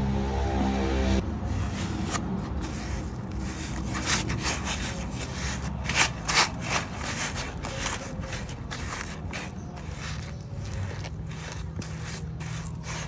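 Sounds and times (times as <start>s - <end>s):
metal spoon scraping a bowl: 1.5s - 13.0s.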